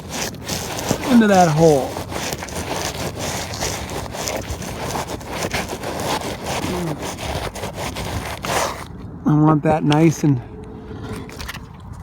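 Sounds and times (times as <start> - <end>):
steel wool scraping and crackling: 0.0 - 9.0, 10.9 - 12.0.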